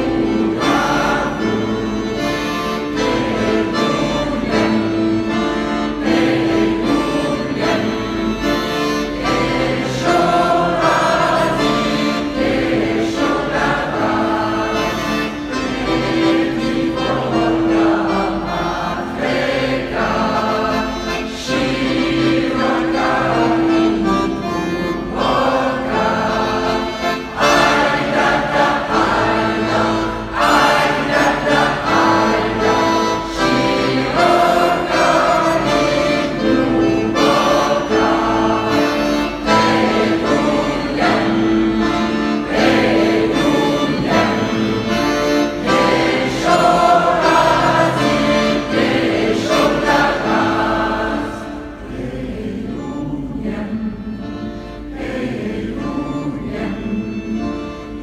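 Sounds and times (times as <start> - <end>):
button accordion: 0.0 - 58.0
mixed choir singing a folk song: 0.0 - 58.0.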